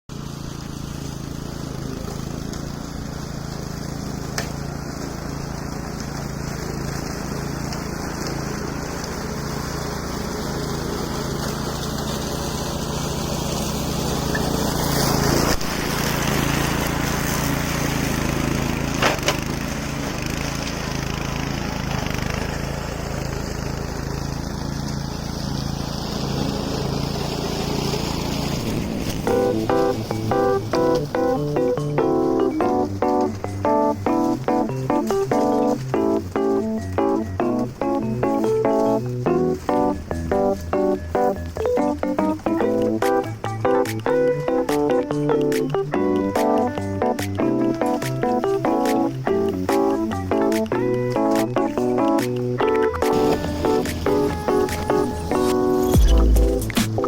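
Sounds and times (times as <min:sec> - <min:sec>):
brush mower engine running: 0:00.1 - 0:57.0
mower cutting through weeds: 0:00.1 - 0:57.0.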